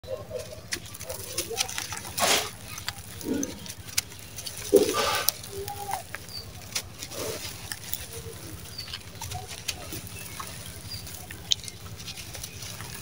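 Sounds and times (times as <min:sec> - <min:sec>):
charcoal crunching in hands: 0:00.4 - 0:13.0.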